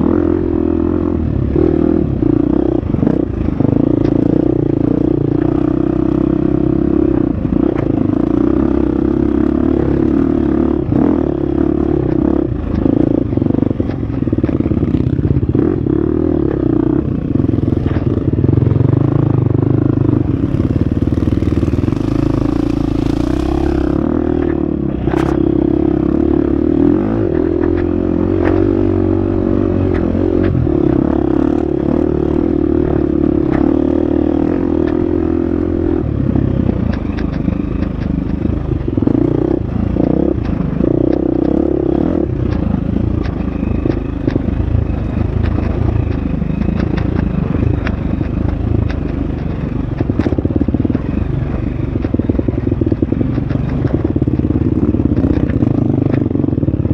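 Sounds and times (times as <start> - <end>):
dirt bike engine running hard: 0.0 - 56.9
sharp clicks and clatter: 7.4 - 26.4, 27.2 - 56.9.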